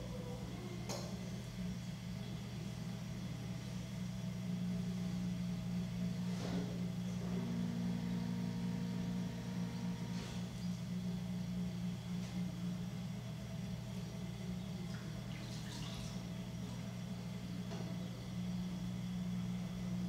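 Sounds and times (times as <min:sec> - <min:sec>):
potter's wheel motor humming: 0:00.0 - 0:20.0.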